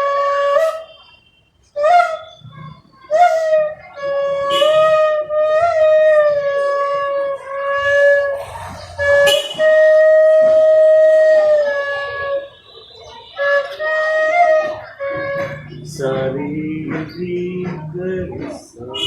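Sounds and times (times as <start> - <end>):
flute playing slow melody: 0.0 - 8.4, 9.0 - 16.4.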